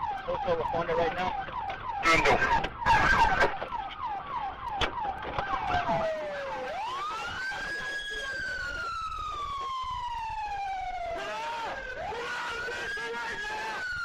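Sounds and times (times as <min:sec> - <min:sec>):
police siren: 0:00.0 - 0:14.0.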